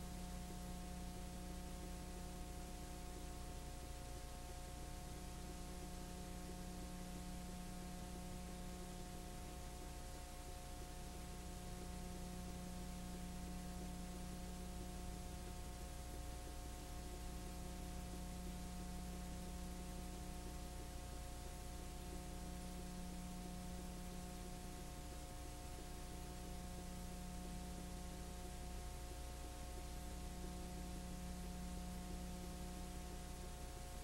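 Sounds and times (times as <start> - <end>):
background hiss: 0.0 - 34.0
electrical hum: 0.0 - 34.0.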